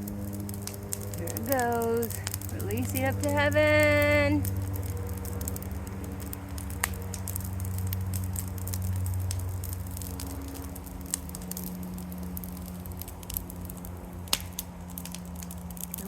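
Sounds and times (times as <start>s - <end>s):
brush pile burning: 0.0s - 16.0s
fire popping: 0.0s - 16.0s.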